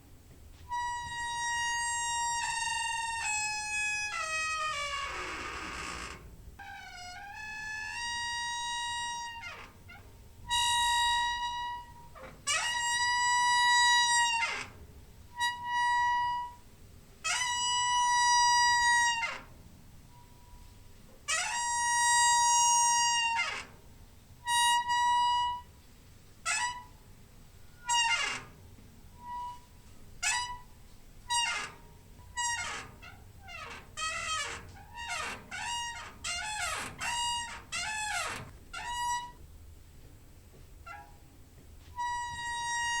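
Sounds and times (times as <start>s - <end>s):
door hinge squeaking: 0.7s - 16.6s, 17.2s - 20.7s, 21.3s - 23.8s, 24.4s - 25.8s, 26.4s - 27.0s, 27.6s - 39.4s, 40.8s - 41.3s, 42.0s - 43.0s.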